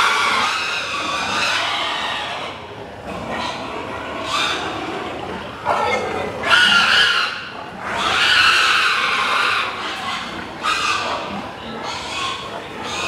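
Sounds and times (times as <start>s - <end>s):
pigs squealing: 0.0s - 13.0s.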